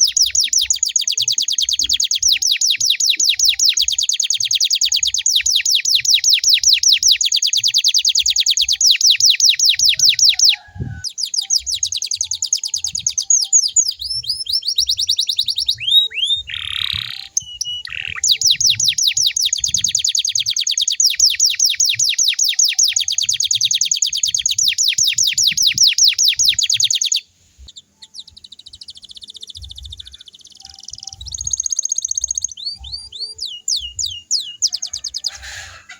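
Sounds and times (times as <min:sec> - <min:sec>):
canary trilling: 0:00.0 - 0:35.9
canary twittering: 0:00.0 - 0:35.9.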